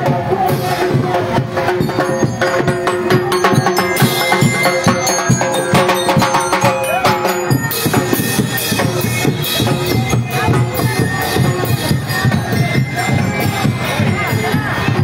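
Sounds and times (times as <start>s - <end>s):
parade drums and percussion: 0.0s - 15.0s.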